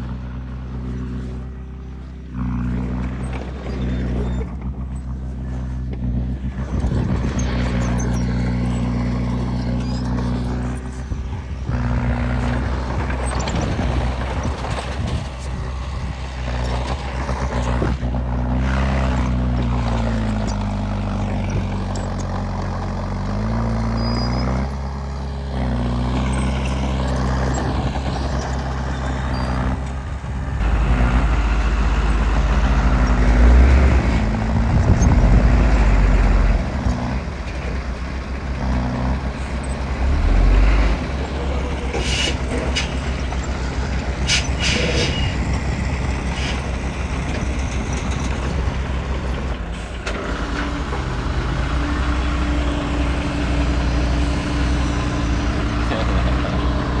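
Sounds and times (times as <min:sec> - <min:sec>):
heavy diesel engine revving: 0:00.0 - 0:57.0.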